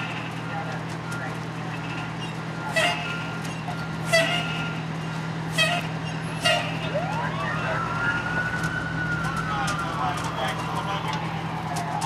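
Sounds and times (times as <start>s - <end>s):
fire engine humming: 0.0s - 12.0s.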